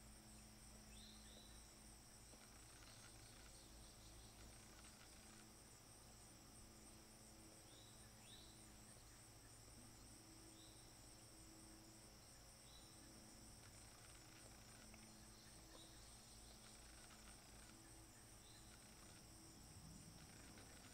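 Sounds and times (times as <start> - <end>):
faint insect trill: 0.0 - 20.9.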